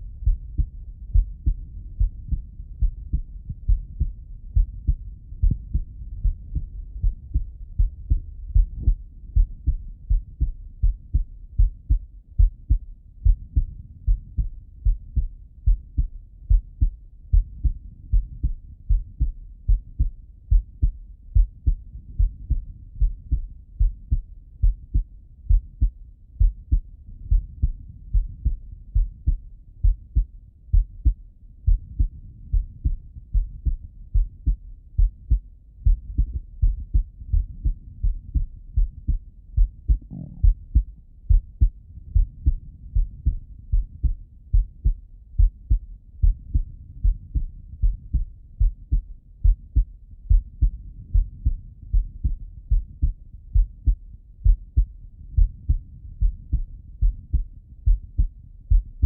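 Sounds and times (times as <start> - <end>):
heartbeat through stethoscope: 0.0 - 59.0.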